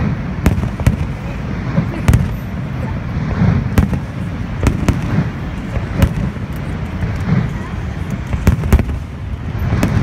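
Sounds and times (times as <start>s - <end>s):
low rumble of bursts: 0.0s - 10.0s.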